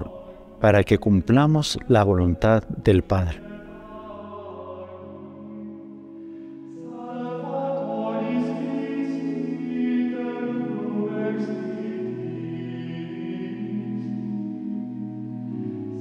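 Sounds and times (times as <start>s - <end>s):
slow music of long held chords: 0.0s - 16.0s.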